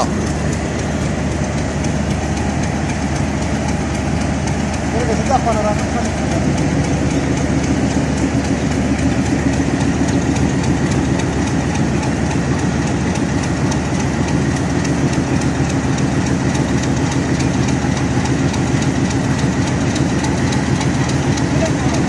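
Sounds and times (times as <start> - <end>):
diesel locomotive idling: 0.0 - 22.0.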